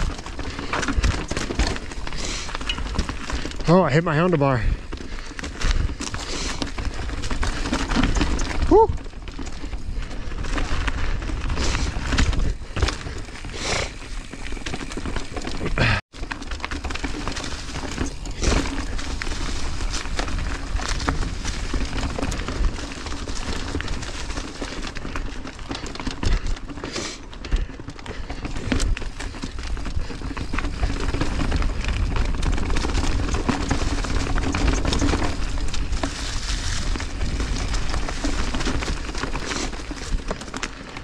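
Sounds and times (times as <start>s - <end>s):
bike rattling over bumps: 0.0s - 41.0s
bike tyres rolling over leaves: 0.0s - 41.0s.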